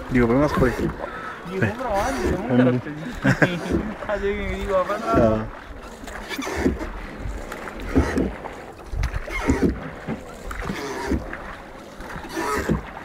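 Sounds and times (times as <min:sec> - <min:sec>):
oars creaking in rope lashings: 0:00.0 - 0:13.0.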